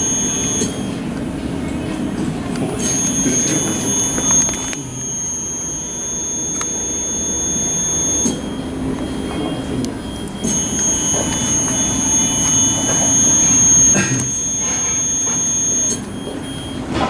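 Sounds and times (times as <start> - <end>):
servo motor whine: 0.0 - 1.2, 2.7 - 16.2
low steady hum: 0.0 - 16.7.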